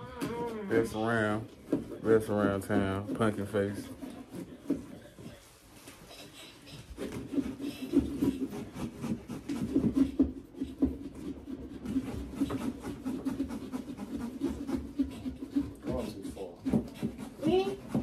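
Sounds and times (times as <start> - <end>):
tool rasping through pumpkin: 0.0 - 5.4, 6.4 - 18.0.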